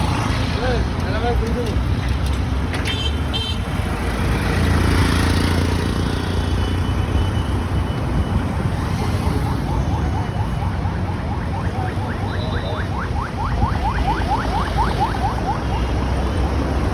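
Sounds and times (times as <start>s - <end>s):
city street traffic: 0.0s - 16.9s.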